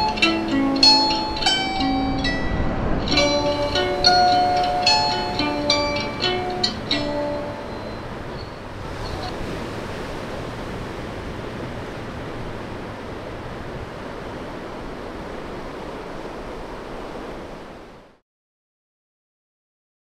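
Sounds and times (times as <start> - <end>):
ocean waves washing: 0.0 - 18.2.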